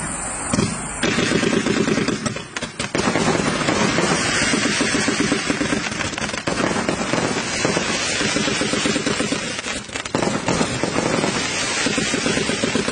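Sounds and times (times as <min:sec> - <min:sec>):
fireworks firing rapidly: 0:00.2 - 0:12.9.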